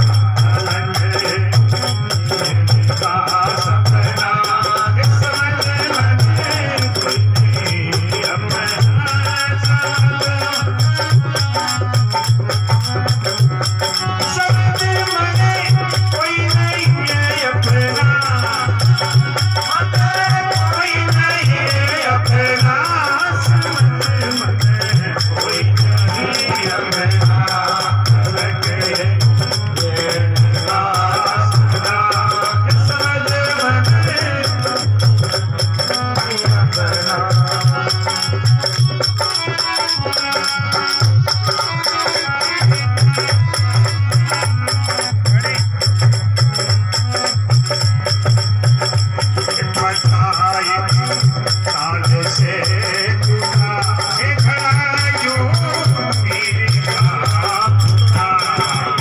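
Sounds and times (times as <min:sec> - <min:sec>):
hand drum beat: 0:00.0 - 0:59.0
harmonium: 0:00.0 - 0:59.0
man singing: 0:00.0 - 0:59.0
shaken rattle percussion: 0:00.0 - 0:59.0.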